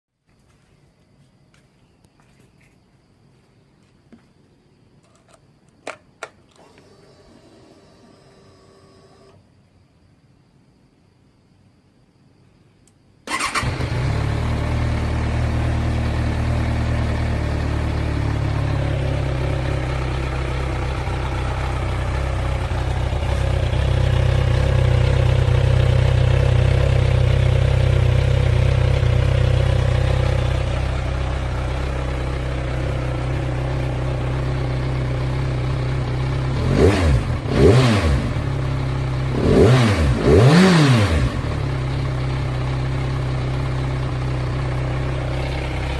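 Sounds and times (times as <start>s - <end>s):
motorcycle engine starting and idling: 5.0s - 9.4s, 13.2s - 45.9s.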